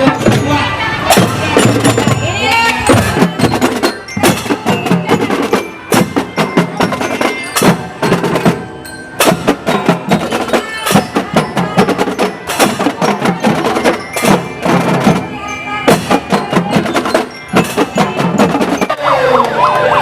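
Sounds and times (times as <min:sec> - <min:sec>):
bell-like tones: 0:00.0 - 0:20.0
marching drums: 0:00.0 - 0:20.0.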